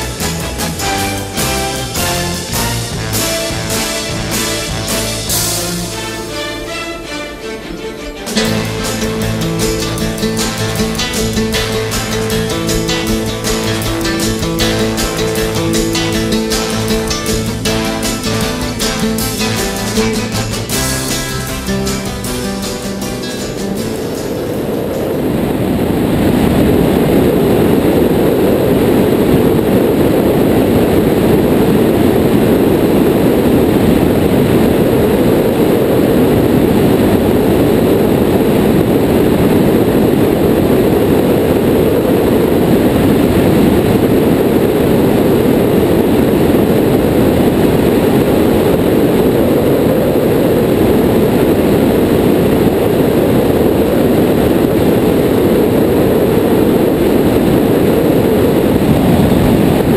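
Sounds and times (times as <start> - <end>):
light aircraft engine drone: 0.0 - 59.9
wind rush on microphone: 0.0 - 59.9.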